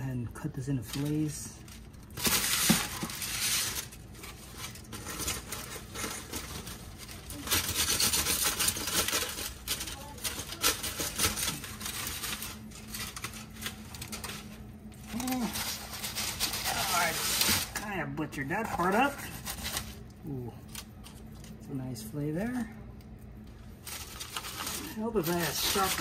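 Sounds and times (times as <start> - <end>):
aluminium foil crinkling: 0.0 - 26.0.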